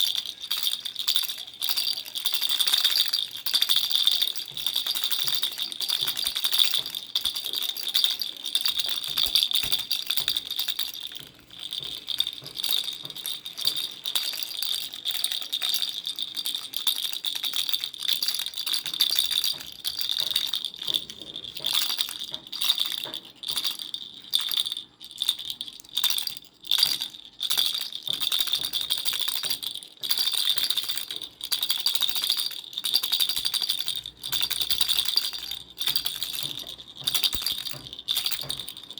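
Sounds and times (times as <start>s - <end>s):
toy rattle shaking: 0.0s - 38.9s.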